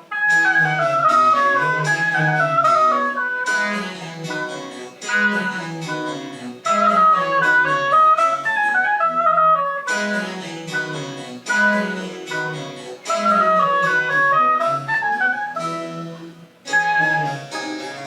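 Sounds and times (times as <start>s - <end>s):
plucked string chords: 0.0s - 8.5s, 9.9s - 18.0s
flute melody: 0.0s - 18.0s.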